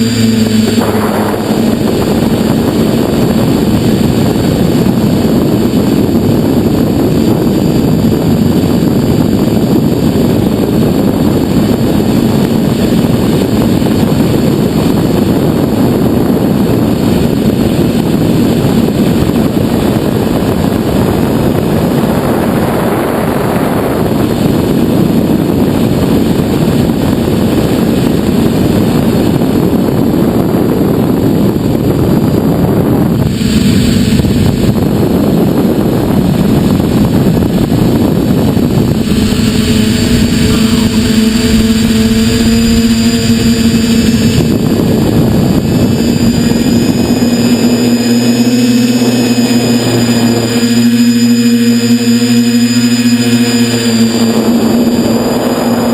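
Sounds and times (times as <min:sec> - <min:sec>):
drone motors buzzing: 0:00.0 - 0:55.9.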